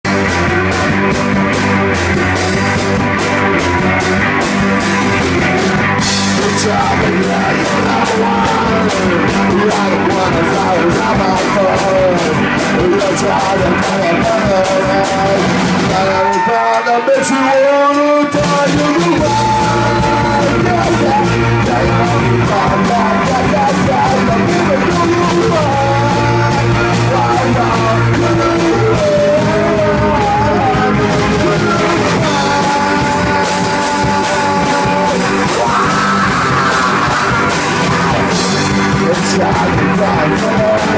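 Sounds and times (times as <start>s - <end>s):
bass guitar: 0.0s - 40.9s
distorted electric guitars: 0.0s - 40.9s
drum kit: 0.0s - 40.9s
singer yelling: 3.5s - 40.9s.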